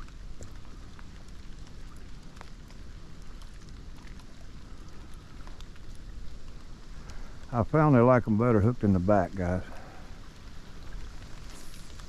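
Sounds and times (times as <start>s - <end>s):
faint ticks of raindrops: 0.0s - 12.0s
light rain falling: 0.0s - 12.0s.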